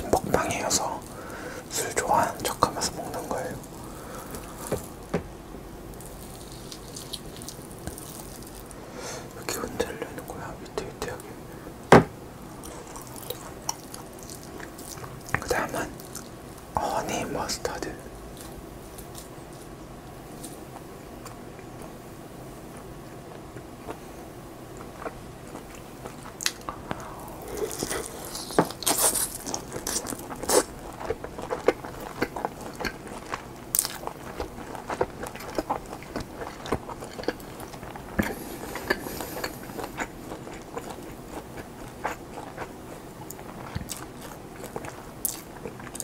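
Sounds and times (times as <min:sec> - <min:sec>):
chewing ham: 0:00.0 - 0:05.2, 0:05.9 - 0:11.3, 0:12.5 - 0:22.0, 0:22.7 - 0:46.0.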